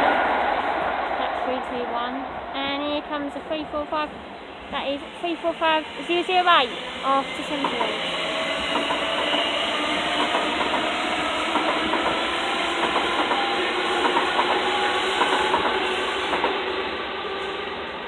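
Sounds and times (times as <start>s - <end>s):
train rushing noise: 0.0s - 18.0s.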